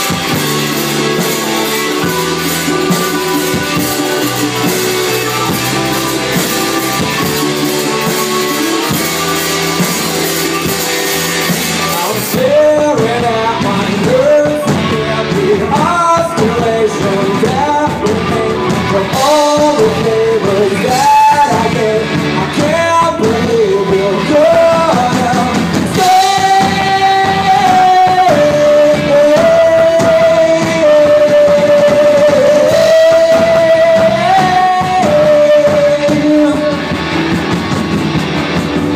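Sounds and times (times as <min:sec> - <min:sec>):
rock music with guitar: 0:00.0 - 0:38.9
sliding lead melody: 0:00.0 - 0:38.9.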